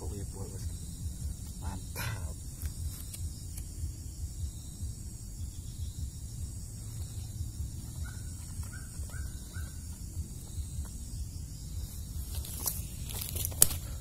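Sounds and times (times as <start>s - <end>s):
bird calls: 0.0s - 14.0s
high-pitched insect hiss: 0.0s - 14.0s.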